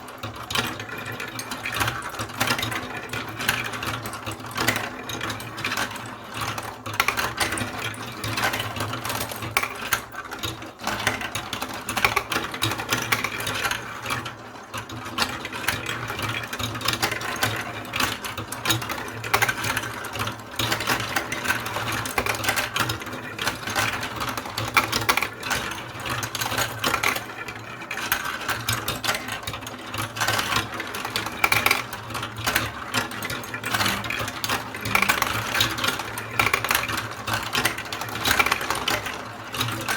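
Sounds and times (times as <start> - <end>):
marbles rattling through marble run: 0.0 - 39.9.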